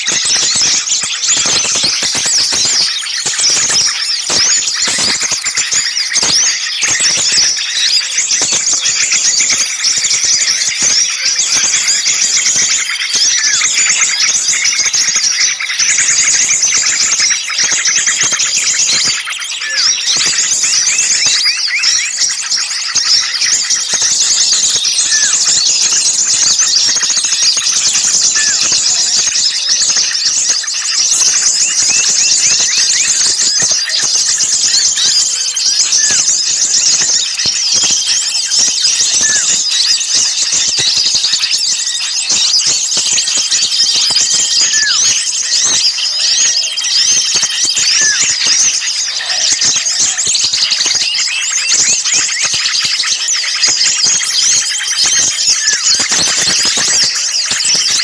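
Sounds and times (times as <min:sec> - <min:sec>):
small songbirds chorus: 0:00.0 - 0:58.0.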